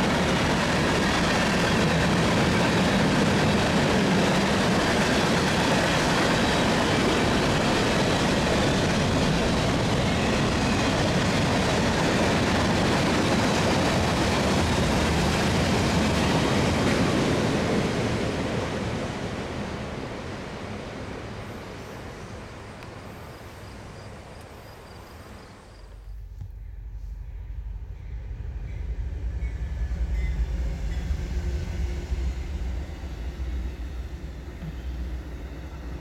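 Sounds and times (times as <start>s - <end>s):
freight train wheels rumbling on rail: 0.0s - 23.7s, 26.0s - 36.0s.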